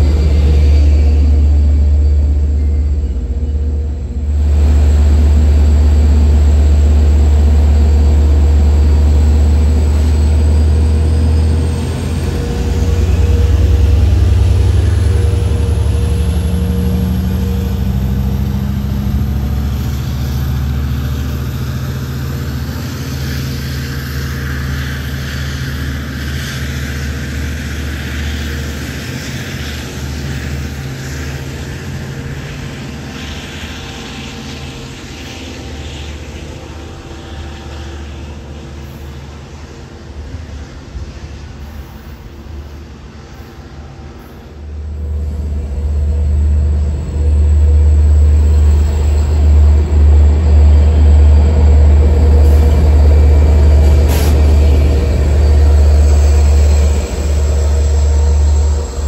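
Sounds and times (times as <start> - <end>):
diesel locomotive engine droning: 0.0 - 59.0.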